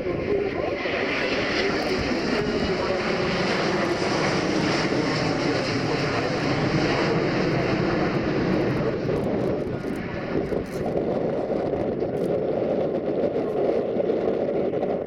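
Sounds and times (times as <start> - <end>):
jet airliner passing: 0.0 - 15.0.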